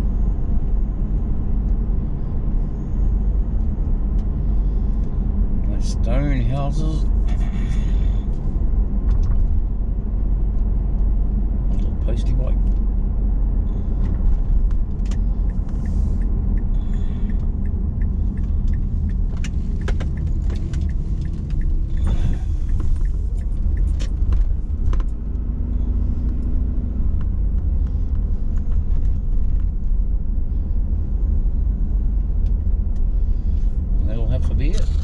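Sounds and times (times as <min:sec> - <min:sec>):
car driving rumble inside cabin: 0:00.0 - 0:35.0.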